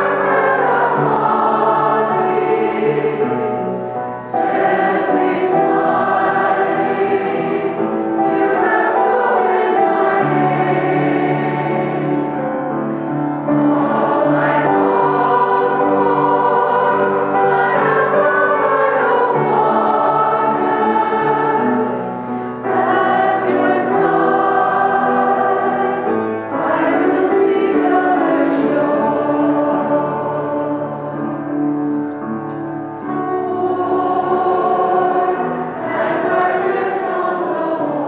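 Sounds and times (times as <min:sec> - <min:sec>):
congregation and choir singing hymn: 0:00.0 - 0:38.0.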